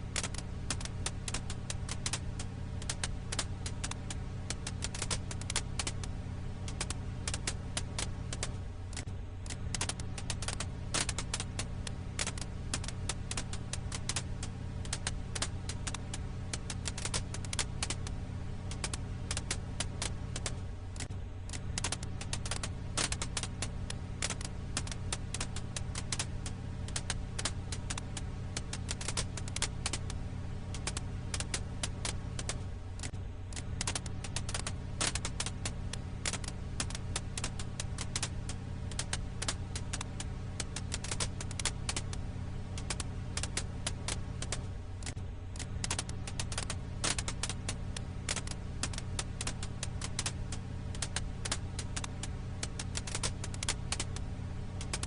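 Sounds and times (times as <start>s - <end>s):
firewood crackling and popping: 0.0s - 55.0s
steady low hum: 0.0s - 55.0s.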